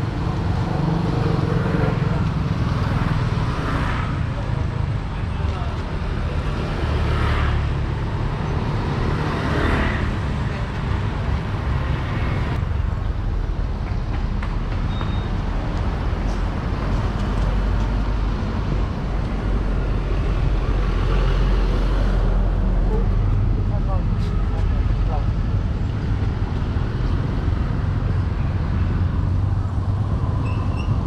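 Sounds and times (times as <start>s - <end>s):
passing vehicles rumbling: 0.0s - 31.0s.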